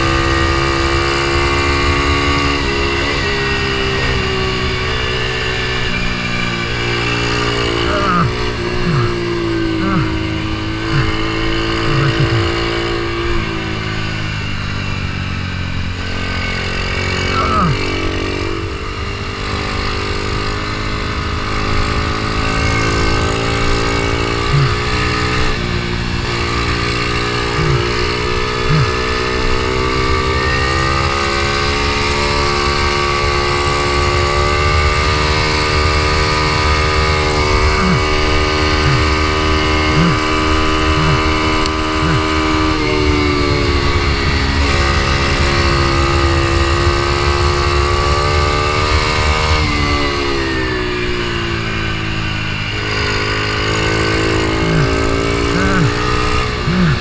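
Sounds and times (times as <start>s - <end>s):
motorbike engine under racing load: 0.0s - 57.0s.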